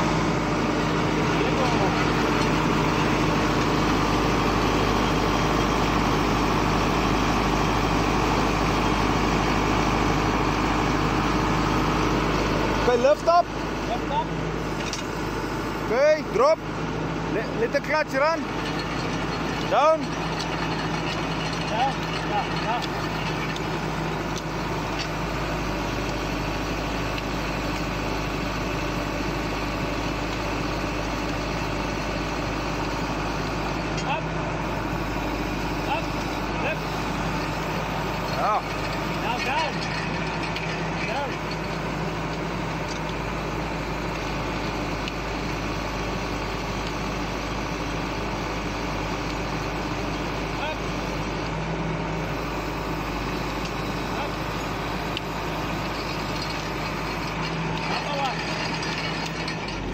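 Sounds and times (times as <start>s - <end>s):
auger boring into soil: 0.0s - 59.9s
tractor engine running: 0.0s - 59.9s.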